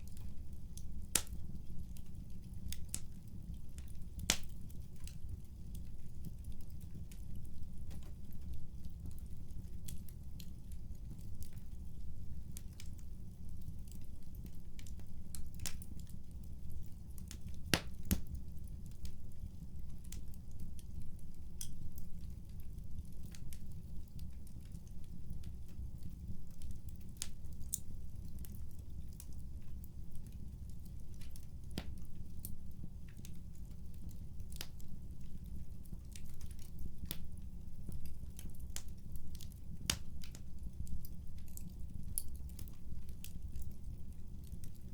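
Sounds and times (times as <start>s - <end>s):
fireplace fire crackling: 0.0s - 44.9s.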